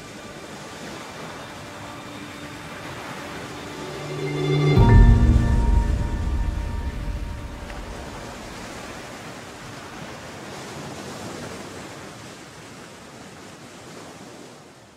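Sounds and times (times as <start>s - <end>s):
sea surf rushing: 0.0s - 12.6s.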